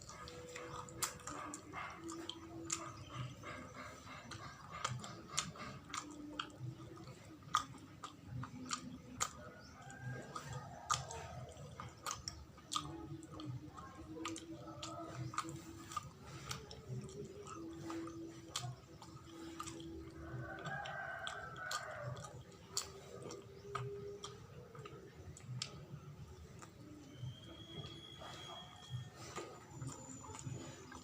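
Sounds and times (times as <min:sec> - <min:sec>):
chewing sticky sweet: 0:00.0 - 0:31.0
wet mouth clicks and smacks: 0:00.0 - 0:31.0.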